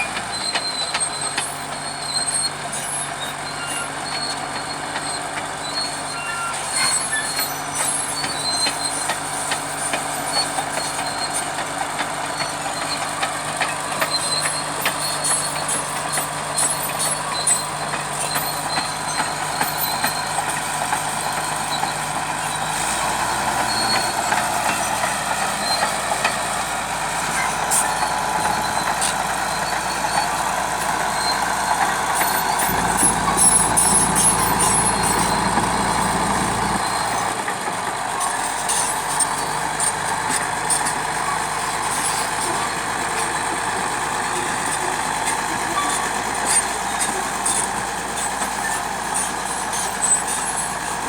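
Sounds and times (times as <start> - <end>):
diesel engine running: 0.0 - 51.0
metallic clanks and squeaks: 0.0 - 51.0.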